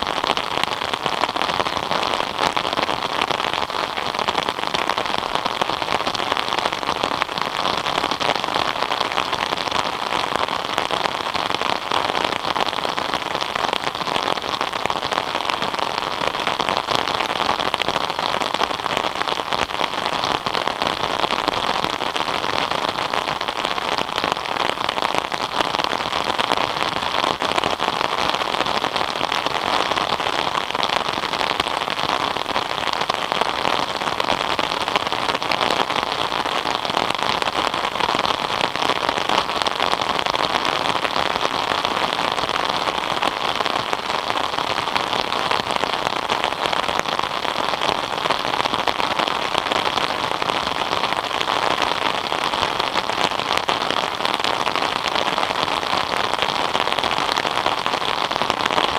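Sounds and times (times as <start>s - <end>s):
rain pattering on surfaces: 0.0s - 58.9s.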